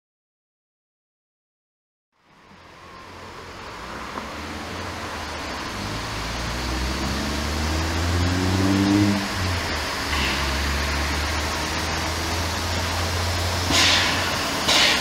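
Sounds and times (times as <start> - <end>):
steam locomotive rumble and hiss: 2.5 - 15.0.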